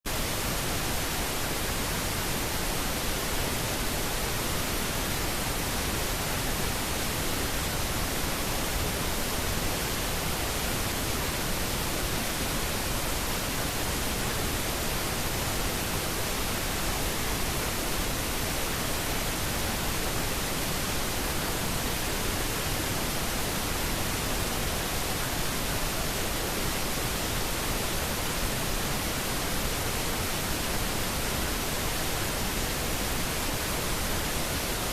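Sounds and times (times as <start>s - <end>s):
white noise hiss: 0.1s - 34.9s.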